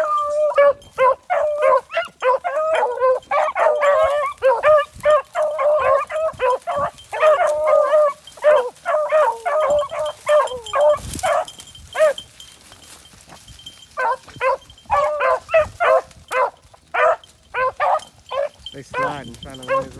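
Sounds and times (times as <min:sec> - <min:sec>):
beagles baying: 0:00.0 - 0:19.9.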